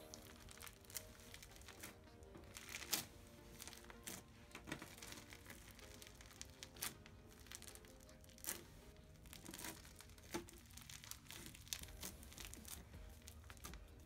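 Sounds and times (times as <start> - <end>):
slime crackling and crunching: 0.0 - 14.0.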